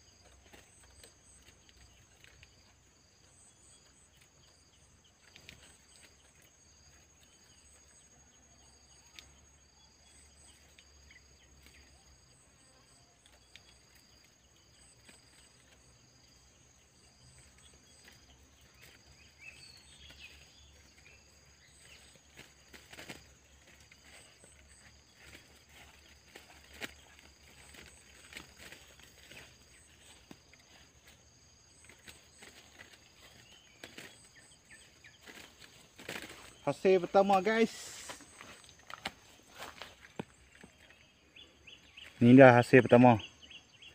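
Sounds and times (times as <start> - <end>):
insect high whine: 0.0 - 43.9
insect pulsing chirp: 0.0 - 43.9.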